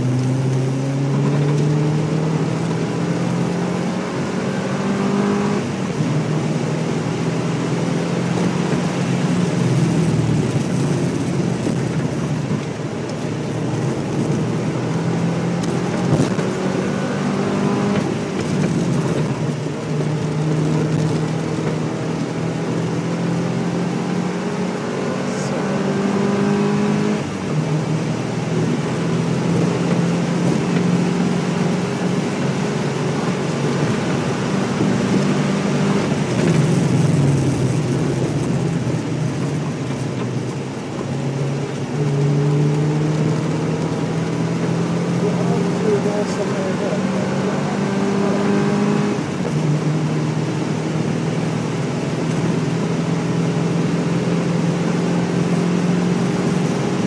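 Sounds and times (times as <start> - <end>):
car engine accelerating: 0.0 - 57.0
road and wind noise: 0.0 - 57.0.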